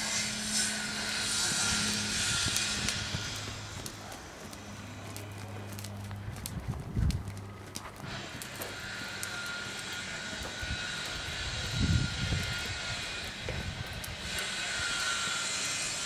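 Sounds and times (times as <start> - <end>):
engine drone: 0.0 - 16.0
thin steady whine: 0.0 - 16.0.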